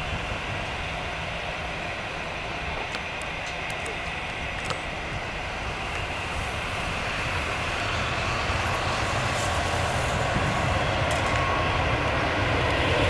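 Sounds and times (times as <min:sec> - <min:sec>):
jet engines rushing and rumbling: 0:00.0 - 0:13.0.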